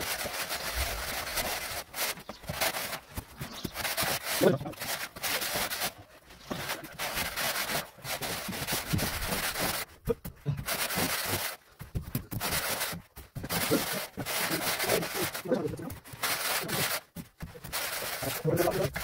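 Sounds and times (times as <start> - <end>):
straightedge scraping wet screed: 0.0 - 9.9, 12.3 - 19.0.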